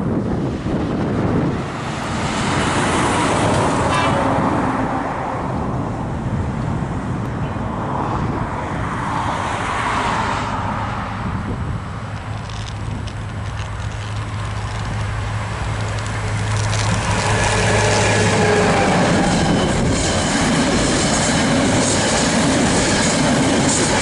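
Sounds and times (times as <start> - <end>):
wind buffeting microphone: 0.0 - 9.1, 10.6 - 24.0
road traffic passing: 0.0 - 24.0.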